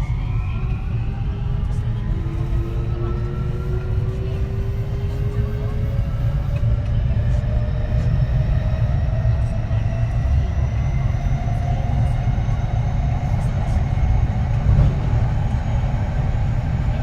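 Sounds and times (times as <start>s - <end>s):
train wheels rumbling on rail: 2.1s - 17.0s.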